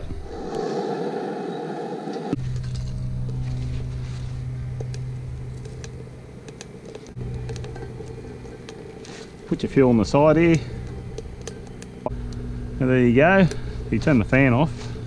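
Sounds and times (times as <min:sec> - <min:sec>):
fan humming: 0:00.0 - 0:15.0
fan rushing air: 0:00.0 - 0:15.0.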